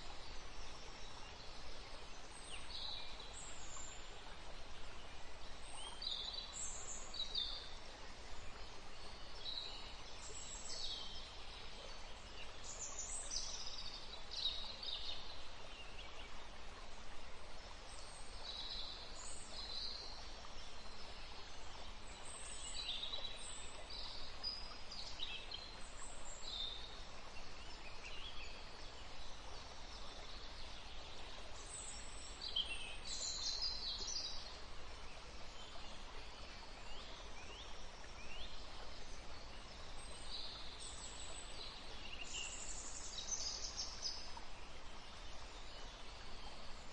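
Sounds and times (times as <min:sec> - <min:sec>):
steady background hiss: 0:00.0 - 0:46.9.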